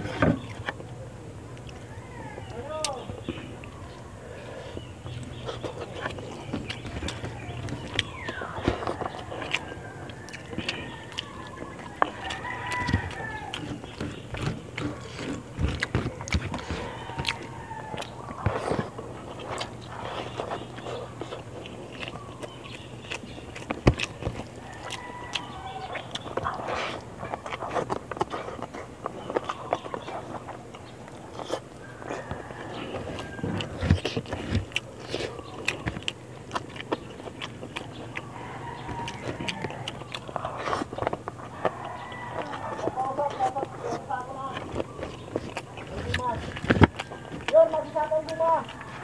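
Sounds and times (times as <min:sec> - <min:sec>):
chewing with wet smacking: 0:00.0 - 0:49.0
fingers working rice on leaf: 0:01.6 - 0:49.0.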